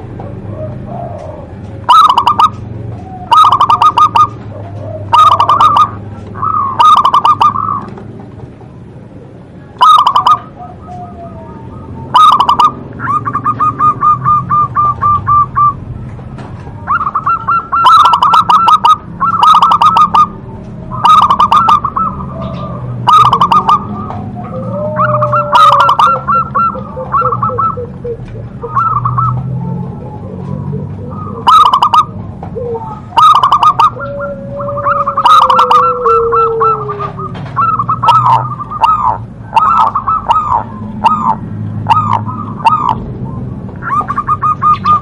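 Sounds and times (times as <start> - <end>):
dove cooing: 0.0 - 8.4, 9.0 - 45.0.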